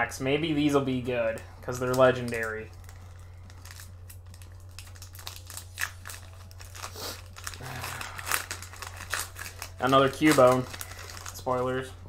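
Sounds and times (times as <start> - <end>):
foil wrapper crinkling: 1.2 - 12.0.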